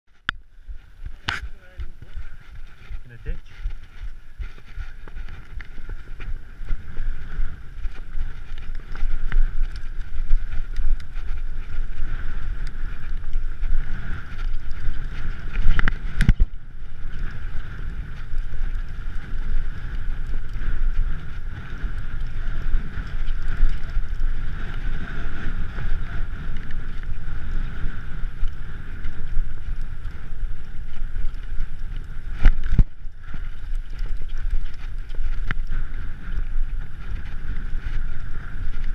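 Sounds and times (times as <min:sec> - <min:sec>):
bicycle rattling over rocky track: 0:00.1 - 0:38.9
wind buffeting microphone: 0:00.1 - 0:38.9.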